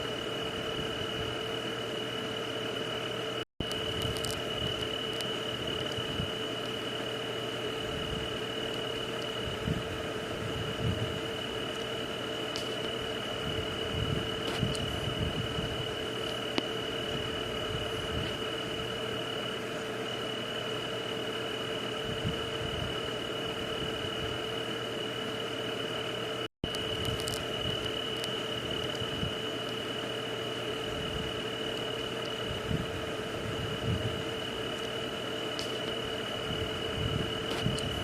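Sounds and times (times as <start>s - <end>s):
low steady drone: 0.0s - 38.0s
high-pitched insect trill: 2.4s - 38.0s.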